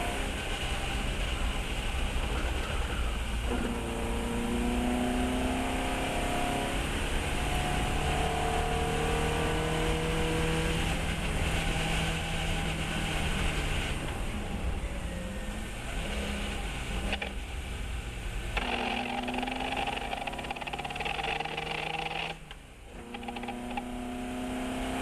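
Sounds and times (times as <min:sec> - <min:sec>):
car engine revving: 0:00.0 - 0:14.5, 0:18.5 - 0:25.0
wind and road noise: 0:00.0 - 0:25.0.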